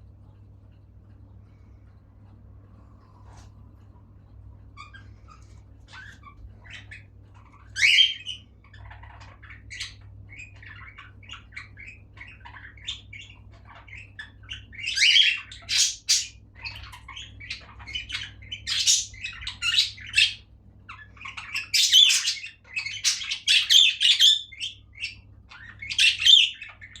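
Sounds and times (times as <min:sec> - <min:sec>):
budgerigars chattering and chirping: 0:04.7 - 0:27.0
squawking bird calls: 0:04.7 - 0:27.0.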